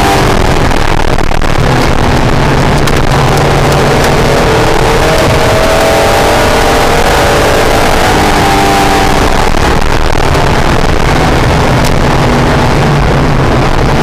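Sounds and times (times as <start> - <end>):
car engine running: 0.0 - 14.0
wind and road noise: 0.0 - 14.0.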